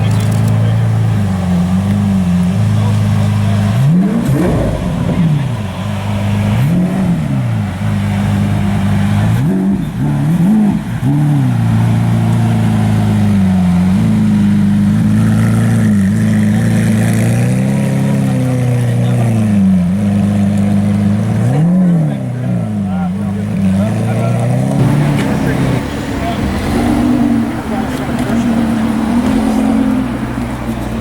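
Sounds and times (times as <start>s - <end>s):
car engine idling: 0.0s - 31.0s
engine throttle blips: 0.0s - 31.0s.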